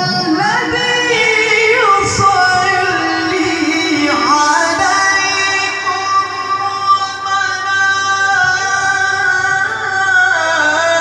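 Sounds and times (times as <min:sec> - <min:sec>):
man reciting melodically through a pa: 0:00.0 - 0:11.0.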